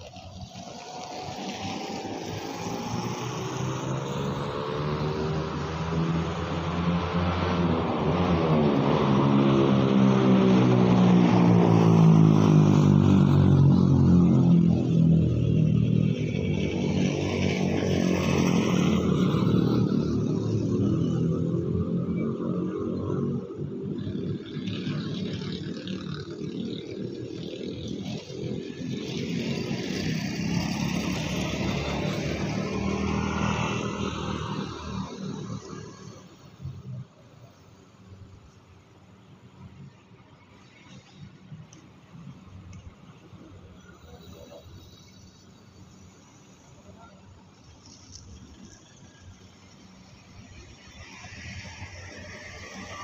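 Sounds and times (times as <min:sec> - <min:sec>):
car and van engines: 0:00.0 - 0:53.0.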